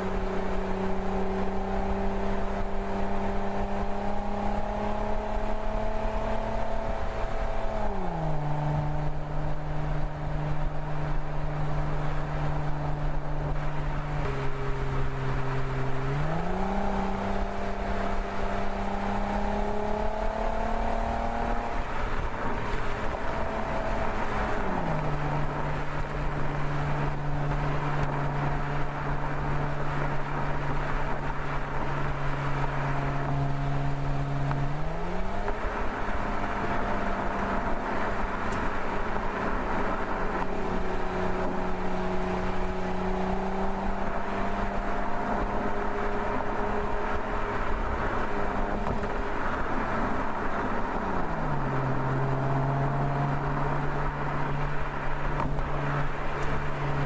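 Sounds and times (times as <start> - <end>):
car engine running: 0.0 - 57.0
road and wind noise: 0.0 - 57.0.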